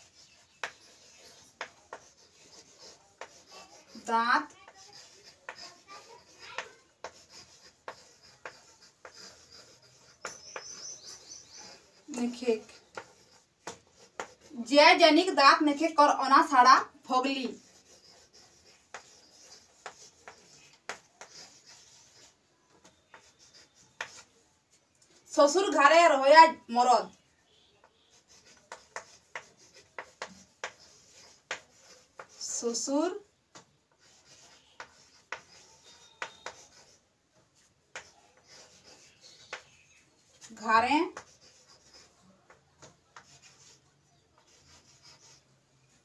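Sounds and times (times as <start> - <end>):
chalk tapping on chalkboard: 0.0 - 15.0, 15.7 - 24.5, 27.1 - 46.0
chalk scratching on chalkboard: 0.0 - 46.0.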